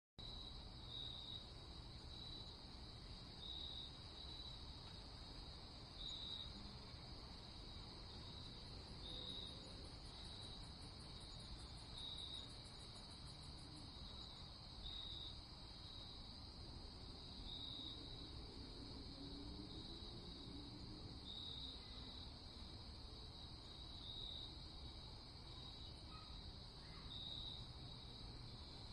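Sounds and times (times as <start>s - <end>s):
crickets chirping: 0.2s - 28.9s
faint low background hiss: 0.2s - 28.9s.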